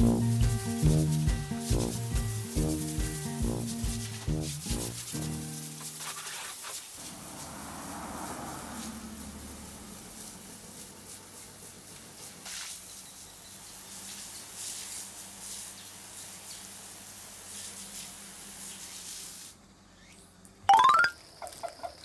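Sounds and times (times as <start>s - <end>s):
hose spraying water on tiles: 0.0s - 8.1s, 8.8s - 19.6s.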